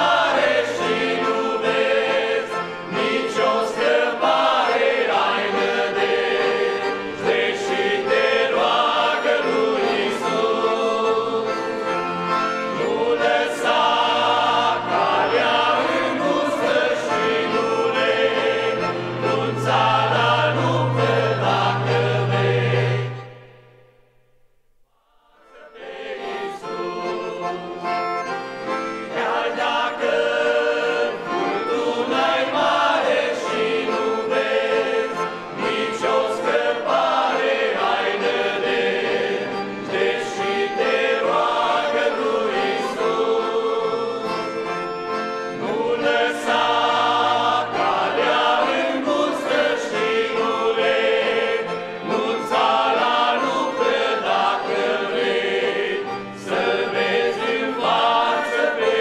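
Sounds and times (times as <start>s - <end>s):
male vocal group singing in harmony: 0.0s - 23.3s, 25.2s - 28.0s, 29.0s - 44.8s, 45.6s - 59.0s
piano accordions: 0.0s - 24.1s, 25.4s - 59.0s.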